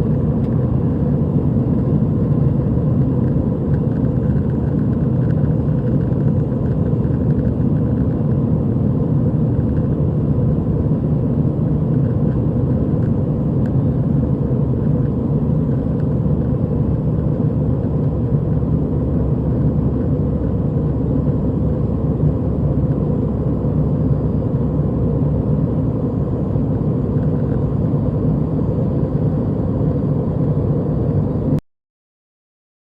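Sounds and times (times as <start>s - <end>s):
faint whine: 0.0s - 31.6s
jet engine cabin rumble: 0.0s - 31.6s.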